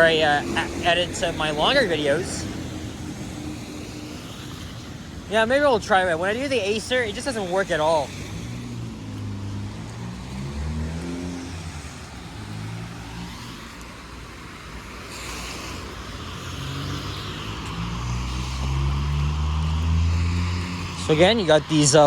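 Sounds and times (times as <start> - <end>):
heavy engine: 0.0 - 22.0
tyre hiss on wet road: 0.0 - 22.0
vehicle engines humming: 0.0 - 22.0.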